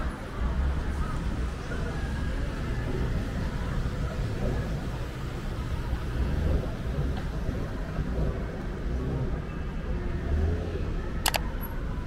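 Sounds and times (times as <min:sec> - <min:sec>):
faint voices of passers-by: 0:00.0 - 0:12.0
low rumble of traffic: 0:00.0 - 0:12.0.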